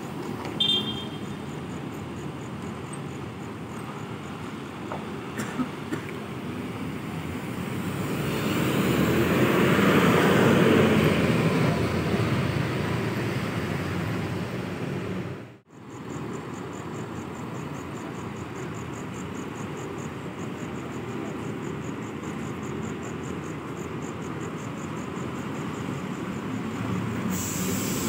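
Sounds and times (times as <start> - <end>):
bus diesel engine passing: 0.0 - 28.0
steady engine hum: 0.0 - 28.0.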